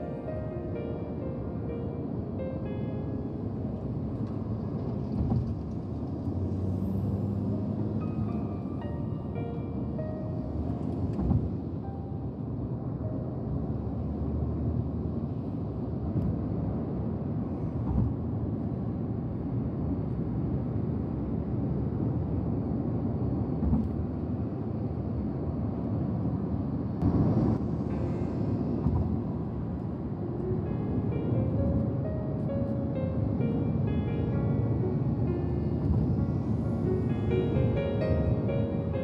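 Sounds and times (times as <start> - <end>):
road and engine noise in cabin: 0.0 - 39.0.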